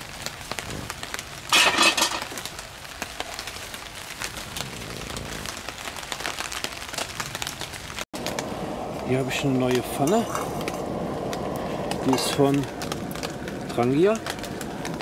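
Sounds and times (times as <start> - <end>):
rain pattering on tarp and leaves: 0.0 - 15.0.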